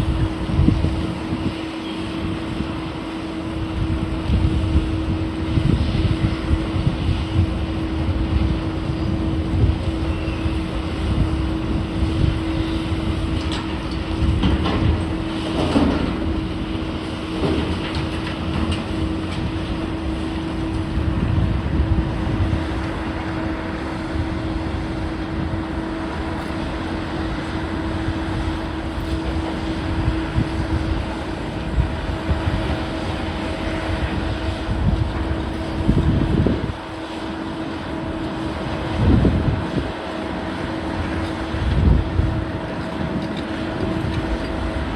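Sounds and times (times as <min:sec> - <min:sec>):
demolition machinery humming: 0:00.0 - 0:44.9.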